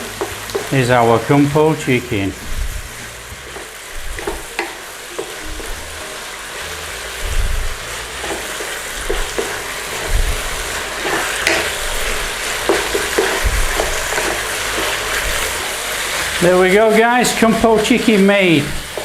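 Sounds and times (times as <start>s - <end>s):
food sizzling in a pan: 0.0s - 19.0s
utensil scraping pan: 2.3s - 6.0s, 6.9s - 19.0s.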